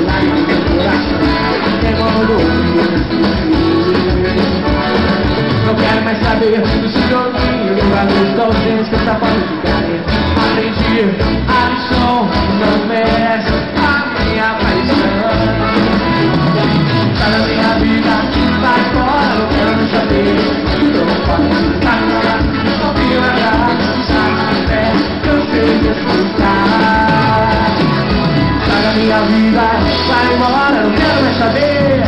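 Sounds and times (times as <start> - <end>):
live band playing: 0.0 - 32.0.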